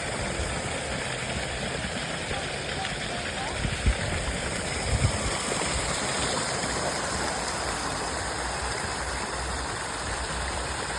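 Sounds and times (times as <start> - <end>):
fountain water splashing: 0.0 - 10.9.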